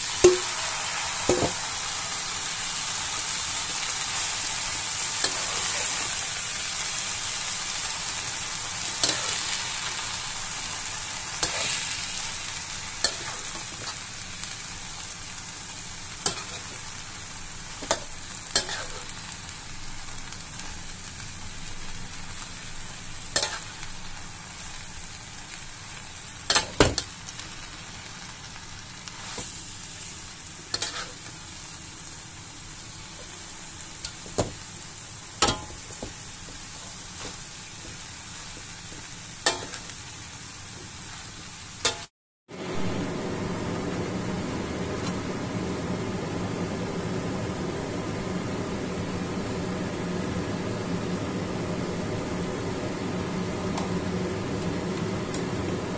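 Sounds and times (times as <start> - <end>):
vegetables sizzling in a wok: 0.0 - 55.9.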